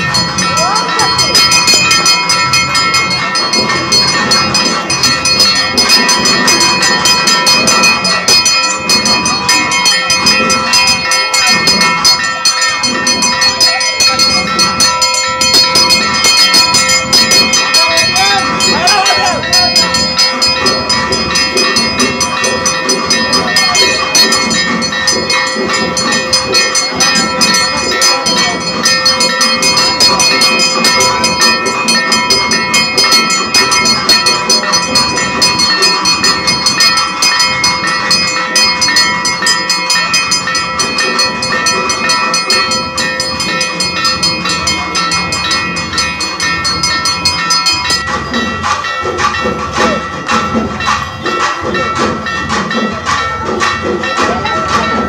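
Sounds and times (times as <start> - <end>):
hand bell ringing: 0.0 - 55.0.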